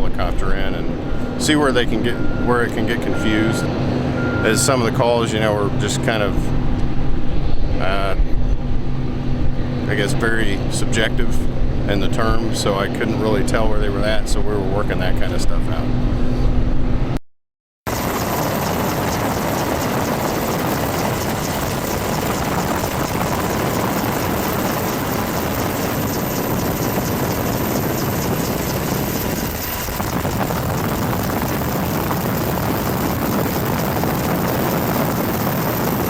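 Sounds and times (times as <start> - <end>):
helicopter rotor and turbine: 0.1 - 17.1, 17.9 - 36.0.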